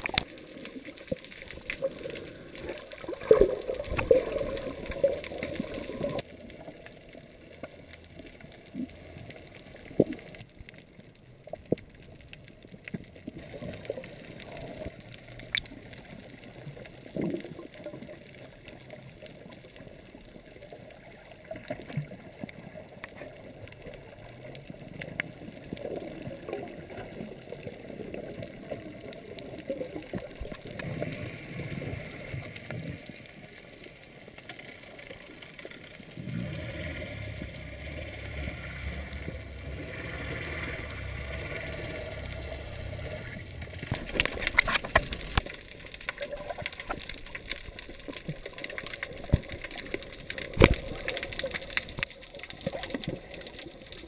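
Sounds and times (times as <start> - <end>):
muffled underwater noise: 0.0 - 54.0.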